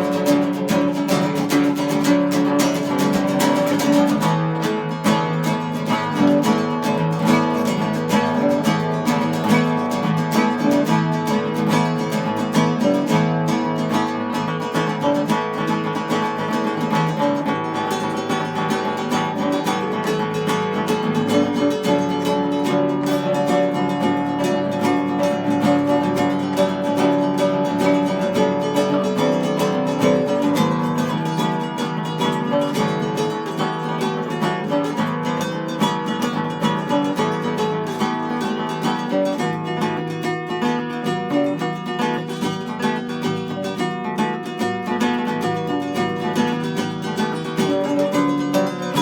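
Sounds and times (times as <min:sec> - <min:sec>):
acoustic guitar picking: 0:00.0 - 0:49.0
plucked string music: 0:00.0 - 0:49.0.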